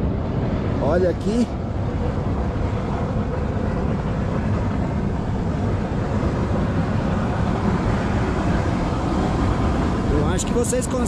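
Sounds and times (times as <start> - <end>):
steam vent rushing: 0.0 - 11.0.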